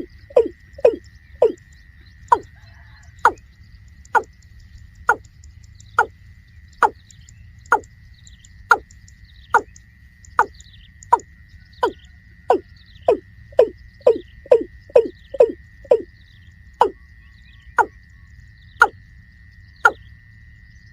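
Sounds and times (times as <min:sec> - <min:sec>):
rail bird calling: 0:00.0 - 0:16.1, 0:16.7 - 0:18.1.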